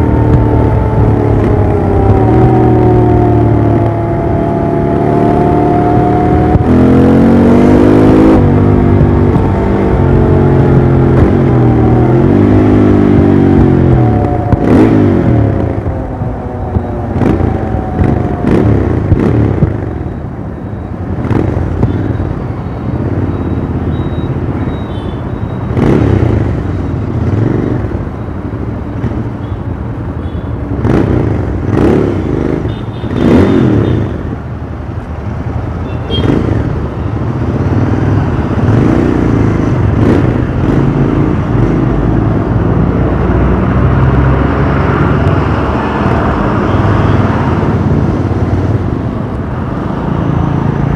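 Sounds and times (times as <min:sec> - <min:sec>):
motorcycle engine revving: 0:00.0 - 0:20.2, 0:21.1 - 0:22.2, 0:25.5 - 0:28.0, 0:30.7 - 0:34.3, 0:35.8 - 0:50.9.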